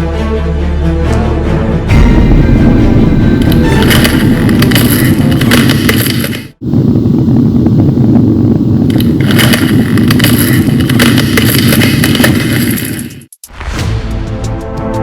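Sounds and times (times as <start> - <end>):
continuous rumbling roar: 1.1 - 13.4.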